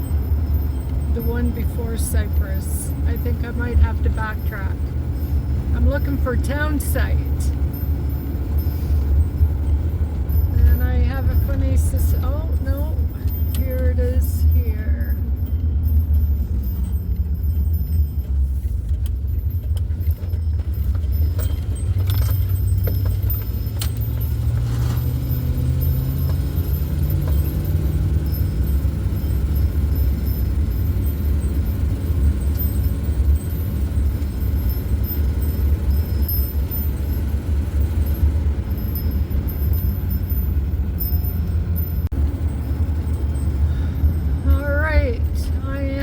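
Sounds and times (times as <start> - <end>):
light jingling rattles: 0.0 - 46.0
van engine and road rumble: 0.0 - 46.0.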